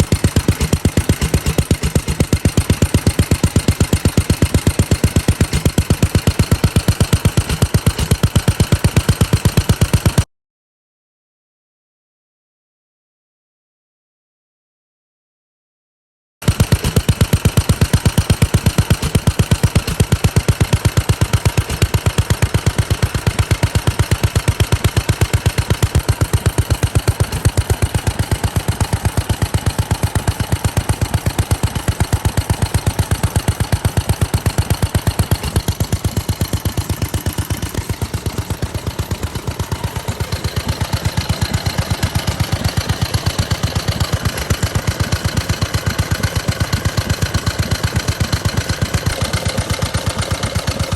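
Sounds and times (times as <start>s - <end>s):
stationary engine running: 0.0s - 10.3s, 16.4s - 50.9s.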